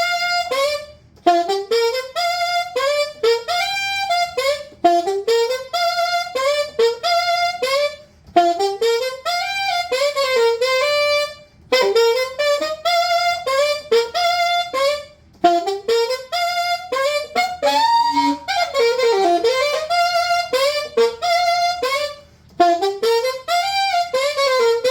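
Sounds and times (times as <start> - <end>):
solo saxophone melody: 0.0 - 24.9.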